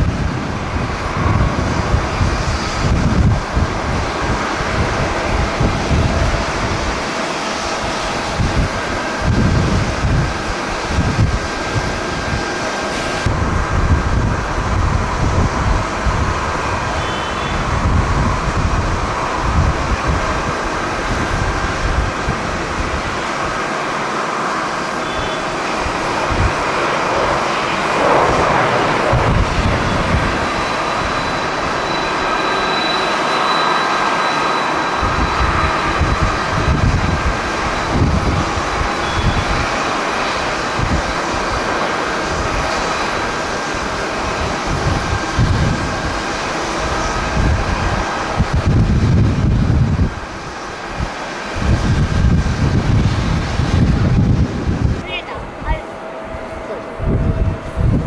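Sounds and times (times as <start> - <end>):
jet engines roaring: 0.0 - 58.0
wind buffeting microphone: 0.0 - 58.0.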